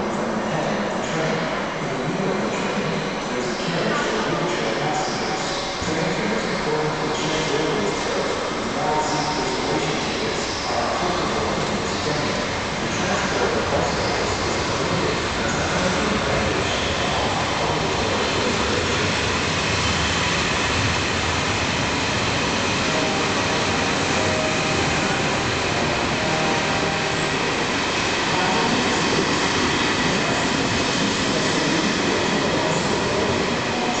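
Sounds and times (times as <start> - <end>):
train wheels running on rails: 0.0 - 34.0.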